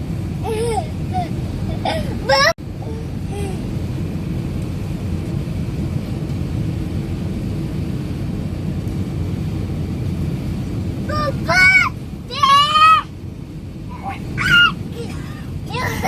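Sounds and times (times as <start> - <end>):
vehicle rumble inside cabin: 0.0 - 16.0.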